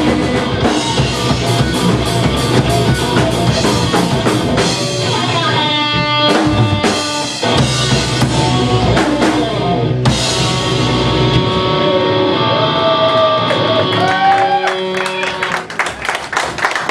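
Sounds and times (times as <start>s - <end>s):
live rock band playing: 0.0s - 16.4s.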